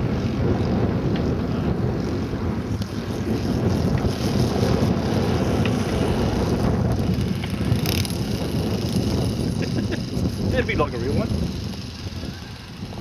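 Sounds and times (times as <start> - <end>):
model aircraft engine running: 0.0 - 13.0
wind buffeting microphone: 0.0 - 13.0.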